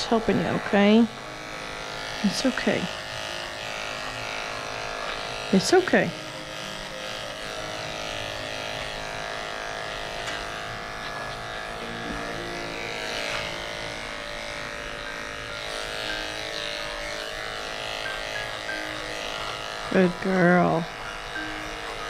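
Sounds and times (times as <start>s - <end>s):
electric clippers buzzing: 0.0s - 22.0s.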